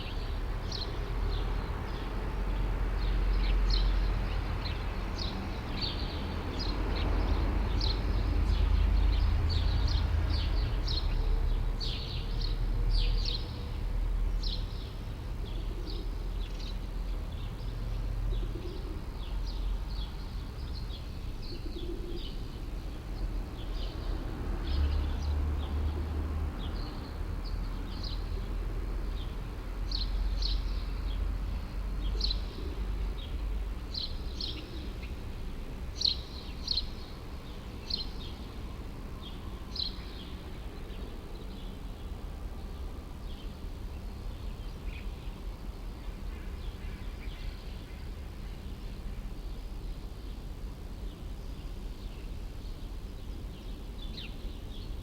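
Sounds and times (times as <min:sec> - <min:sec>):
low city rumble: 0:00.0 - 0:55.0
small birds chirping: 0:00.0 - 0:55.0.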